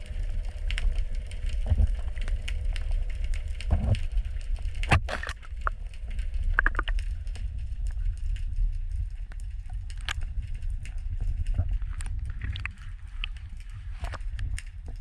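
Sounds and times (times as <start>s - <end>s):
clicks and crackles: 0.0s - 15.0s
underwater water rumble: 0.0s - 15.0s.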